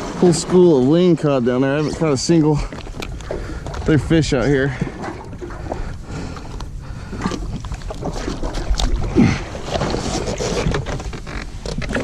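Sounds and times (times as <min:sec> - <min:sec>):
water slapping against jet ski: 0:00.0 - 0:12.0
wind buffeting microphone: 0:00.0 - 0:12.0.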